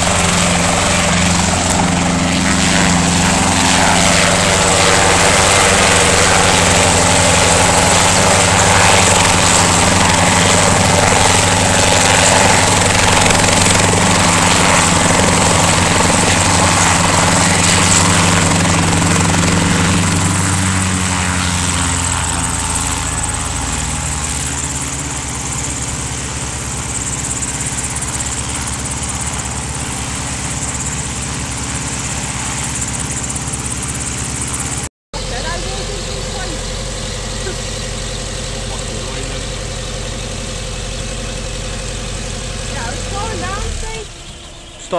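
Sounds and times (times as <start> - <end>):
helicopter rotor and engine: 0.0 - 44.9.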